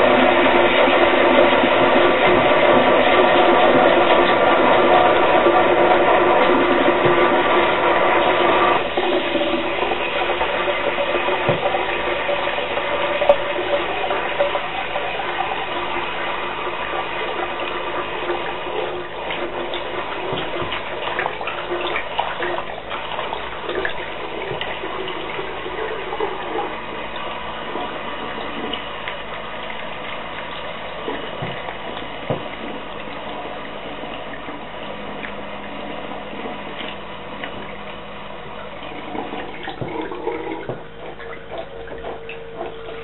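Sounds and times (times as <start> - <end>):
toilet flushing and refilling: 0.0 - 43.0.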